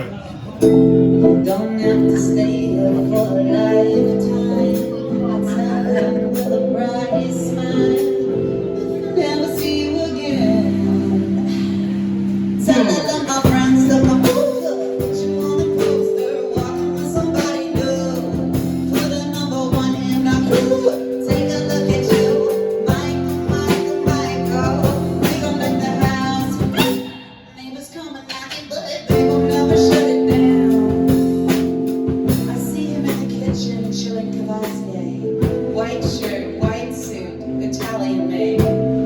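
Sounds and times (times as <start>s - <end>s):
guitar: 0.0s - 27.6s, 28.7s - 39.0s
live band playing: 0.0s - 27.6s, 29.1s - 39.0s
woman singing: 0.7s - 39.0s.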